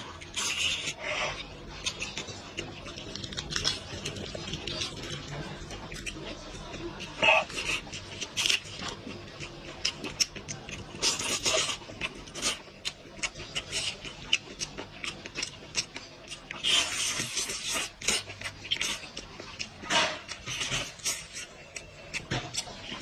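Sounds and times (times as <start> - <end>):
wet chewing and smacking: 0.0 - 23.0.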